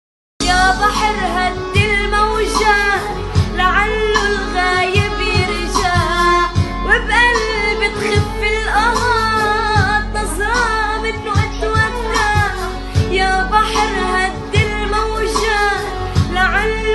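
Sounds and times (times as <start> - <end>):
sustained bass: 0.4 - 16.9
woman singing: 0.4 - 16.9
steady beat: 1.0 - 16.8.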